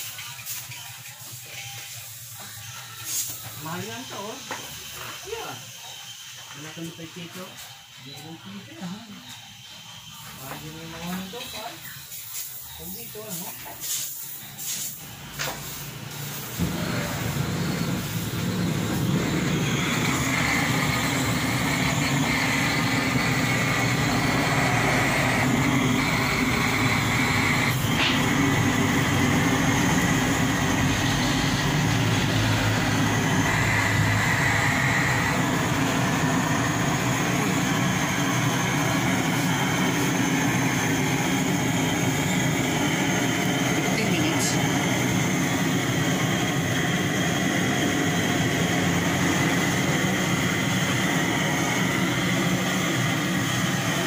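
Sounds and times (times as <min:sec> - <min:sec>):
blowtorch roaring: 0:00.0 - 0:07.6, 0:08.5 - 0:54.0.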